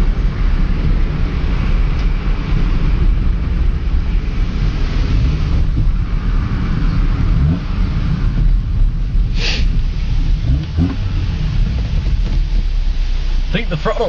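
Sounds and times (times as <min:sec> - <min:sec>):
car engine rumbling: 0:00.0 - 0:14.0
road and wind noise: 0:00.0 - 0:14.0.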